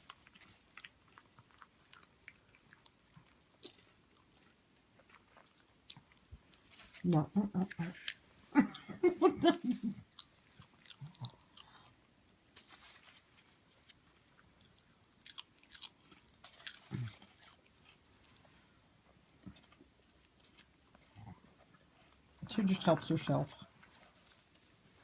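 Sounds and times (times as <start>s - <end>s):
pet crunching popcorn: 0.0s - 25.0s.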